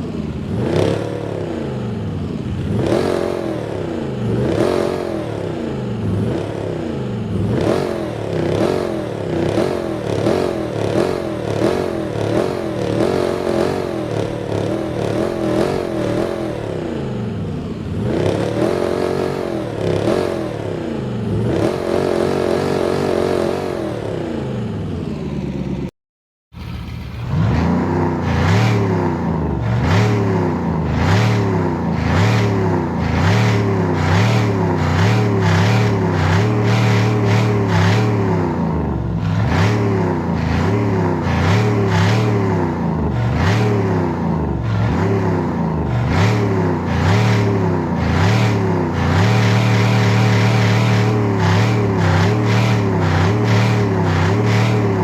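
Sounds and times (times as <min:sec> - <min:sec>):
car engine revving: 0:00.0 - 0:25.9, 0:26.6 - 0:55.0
second car revving: 0:00.0 - 0:25.9, 0:26.6 - 0:55.0
supercharger whining: 0:00.0 - 0:25.9, 0:26.6 - 0:55.0.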